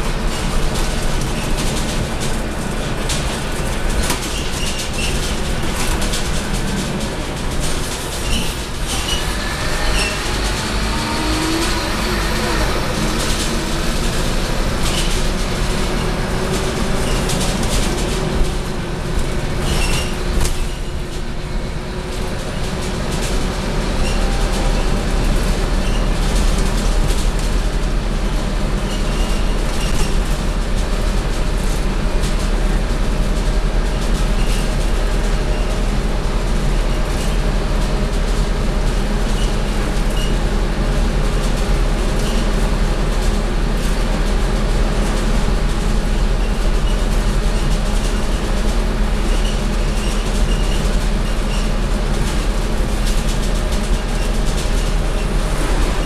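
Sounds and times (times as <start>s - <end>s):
bus body clicks and rattles: 0.0s - 9.3s, 9.9s - 56.0s
bus diesel engine drone: 0.0s - 56.0s.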